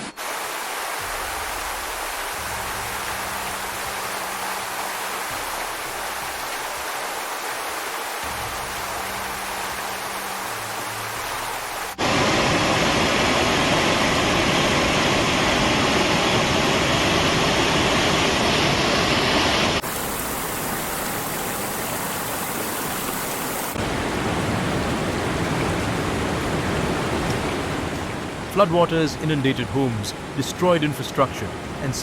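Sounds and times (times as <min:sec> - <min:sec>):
floodwater rushing: 0:00.2 - 0:32.0.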